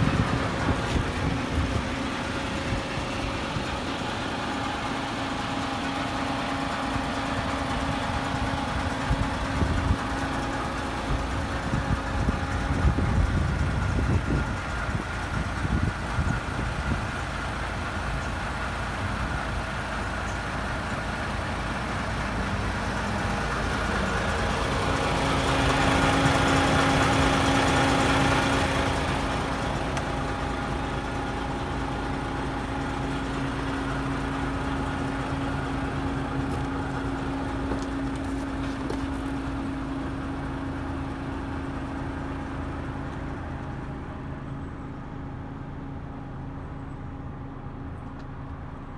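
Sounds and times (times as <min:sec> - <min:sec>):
truck diesel engine idling: 0:00.0 - 0:48.9.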